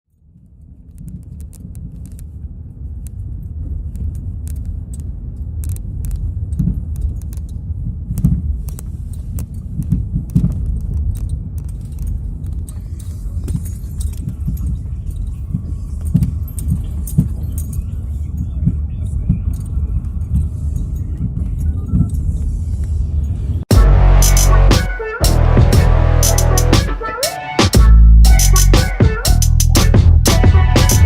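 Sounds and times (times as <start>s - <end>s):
low road rumble: 0.2s - 31.0s.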